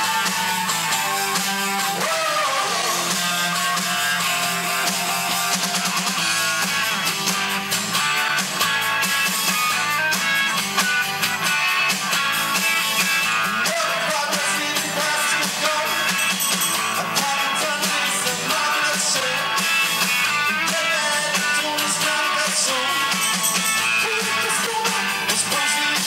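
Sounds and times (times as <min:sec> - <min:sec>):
drums beat: 0:00.0 - 0:26.0
electric guitar: 0:00.0 - 0:26.0.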